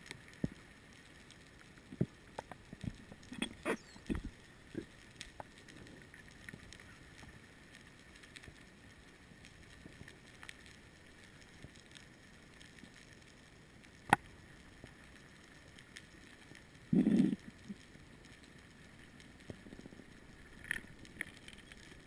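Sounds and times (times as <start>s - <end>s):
faint ticks: 0.0s - 22.0s.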